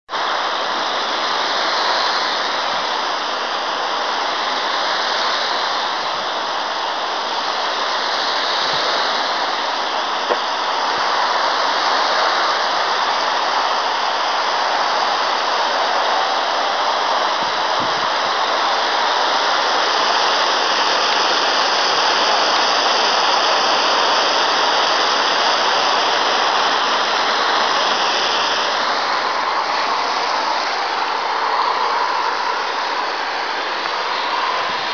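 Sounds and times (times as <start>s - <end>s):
water jet spraying on stone wall: 0.1s - 34.9s.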